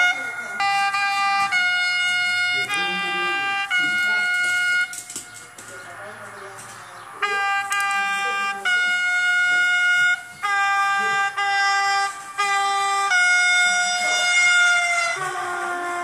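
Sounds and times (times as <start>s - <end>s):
train air horn blasts: 0.0s - 5.1s, 7.2s - 16.0s.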